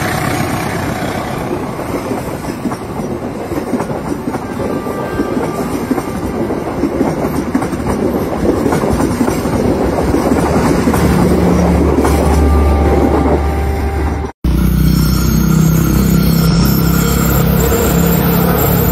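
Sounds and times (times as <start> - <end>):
train rumbling on rails: 0.0 - 18.9.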